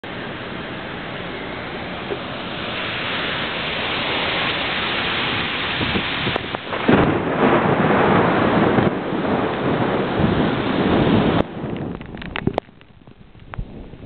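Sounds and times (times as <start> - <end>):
heavy rain hiss: 0.0 - 14.0
deep rush of thunder or gust: 2.6 - 14.0.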